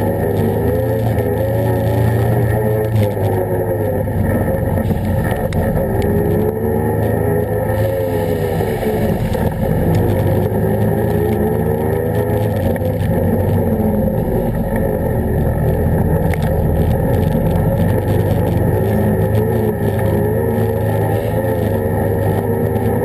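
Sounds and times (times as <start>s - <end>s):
atv engine revving while riding: 0.0s - 23.0s.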